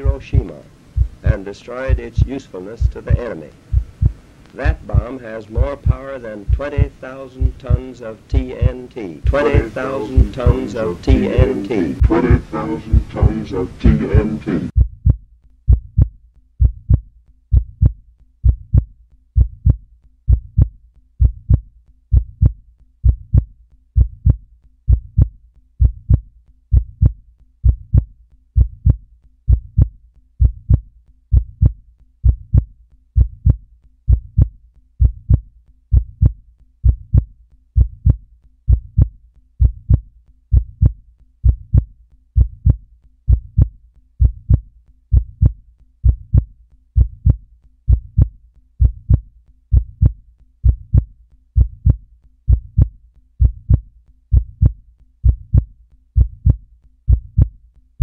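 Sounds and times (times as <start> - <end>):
low thumps in pairs: 0.0 - 12.2, 12.9 - 57.6.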